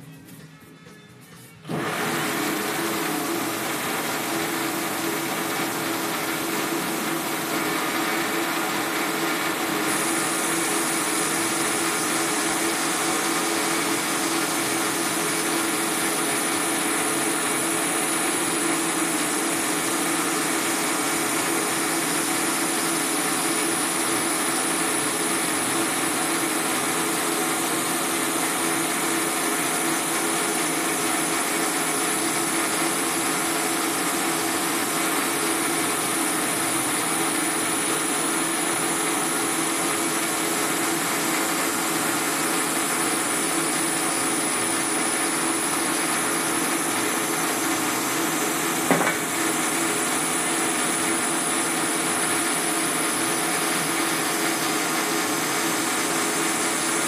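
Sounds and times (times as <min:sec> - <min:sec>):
lathe motor hum: 0:01.6 - 0:57.0.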